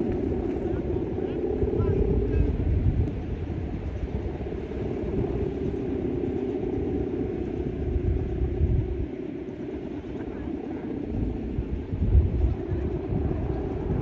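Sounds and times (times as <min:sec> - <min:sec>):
kite hummer drone: 0:00.0 - 0:14.0
wind rumbling on microphone: 0:00.0 - 0:14.0.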